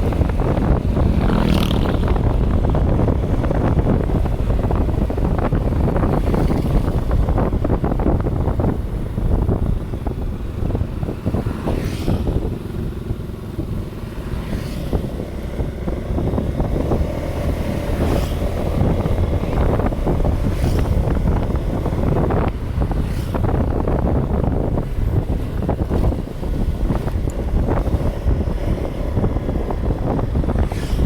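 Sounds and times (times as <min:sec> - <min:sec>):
low engine hum: 0:00.0 - 0:31.0
wind buffeting microphone: 0:00.0 - 0:31.0.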